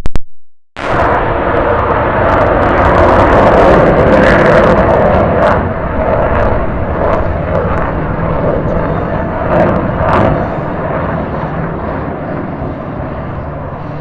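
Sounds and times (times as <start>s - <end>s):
jet engine roar flying past: 0.8s - 14.0s.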